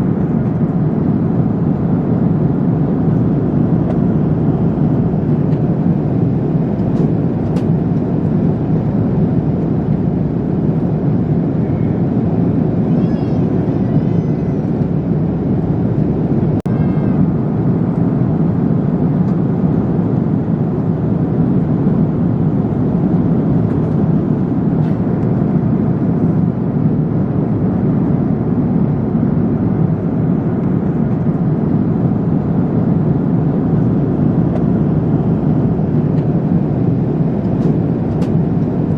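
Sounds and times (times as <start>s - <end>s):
airliner cabin engine rush: 0.0s - 38.9s.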